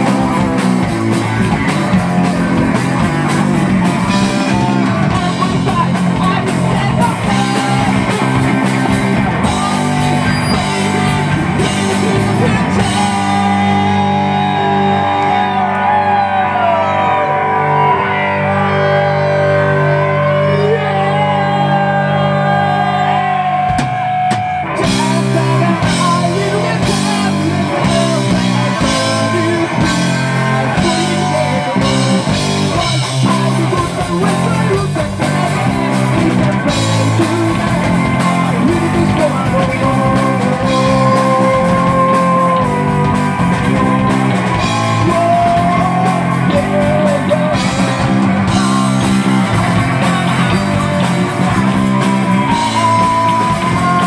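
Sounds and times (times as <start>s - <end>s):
drums and cymbals: 0.0s - 14.6s, 23.7s - 54.0s
electric bass line: 0.0s - 54.0s
electric guitar: 0.0s - 54.0s.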